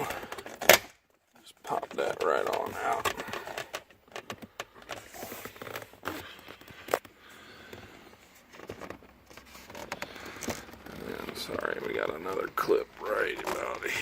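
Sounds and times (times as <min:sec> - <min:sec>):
plastic trim clicks and creaks: 0:01.6 - 0:07.9, 0:08.5 - 0:14.0.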